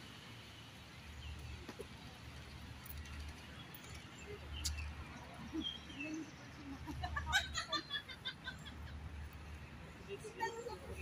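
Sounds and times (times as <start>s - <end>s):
birds chirping: 0.4s - 11.0s.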